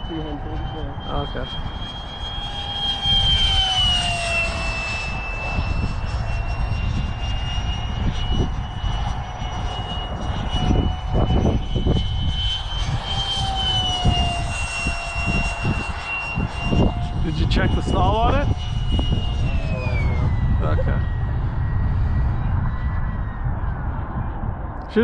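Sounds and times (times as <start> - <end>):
model jet fan whine flying by: 0.0 - 25.0.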